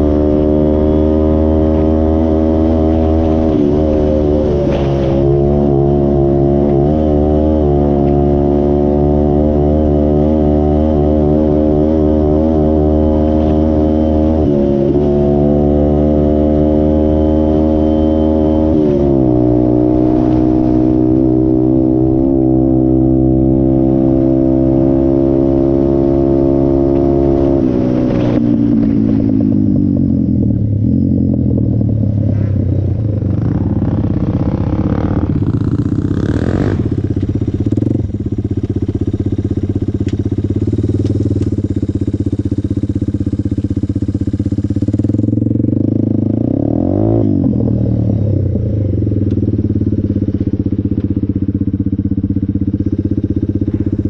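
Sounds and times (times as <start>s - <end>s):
off-road vehicle engine revving: 0.0s - 30.9s, 31.5s - 39.4s, 44.4s - 51.2s.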